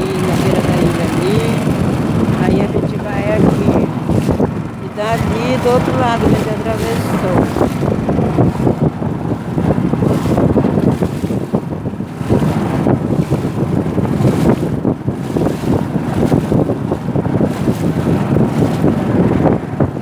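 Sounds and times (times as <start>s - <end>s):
water washing against canoe: 0.0s - 20.0s
wind buffeting microphone: 0.0s - 20.0s.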